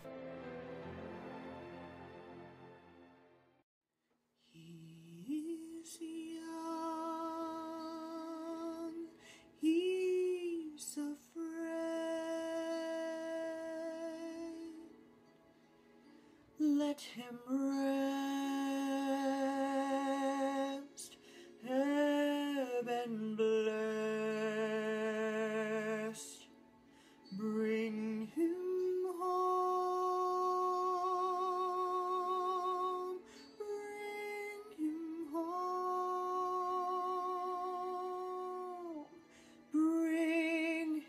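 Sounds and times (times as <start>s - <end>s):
man singing a slow ballad: 4.6s - 15.0s, 16.6s - 26.5s, 27.2s - 41.0s.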